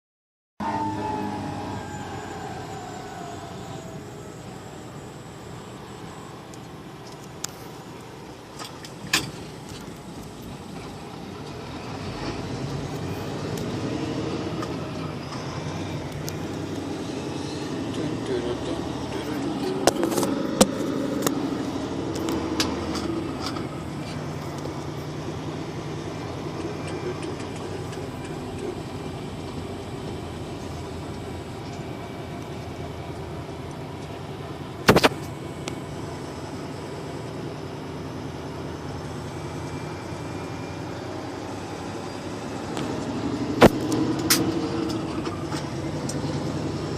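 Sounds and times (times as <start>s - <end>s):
traffic engine hum and road noise: 0.6s - 46.9s.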